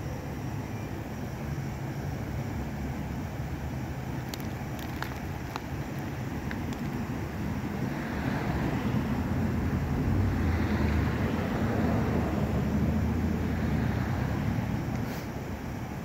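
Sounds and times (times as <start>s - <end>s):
low vehicle rumble: 0.0s - 16.0s.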